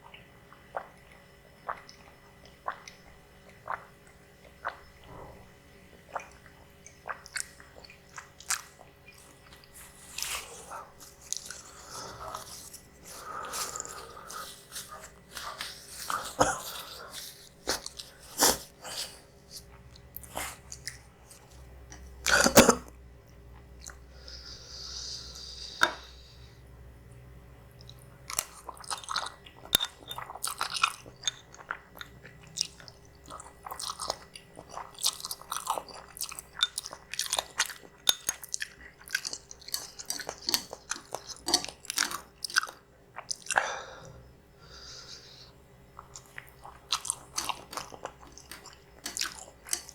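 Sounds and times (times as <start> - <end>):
person chewing noodles: 0.0 - 5.4, 6.0 - 22.8, 27.8 - 49.9.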